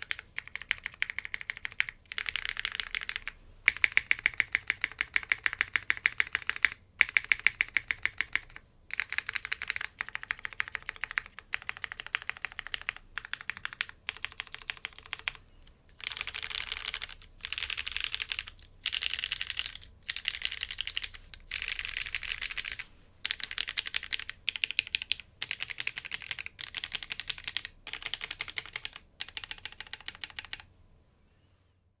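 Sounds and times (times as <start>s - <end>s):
mechanical keyboard typing: 0.0s - 30.7s.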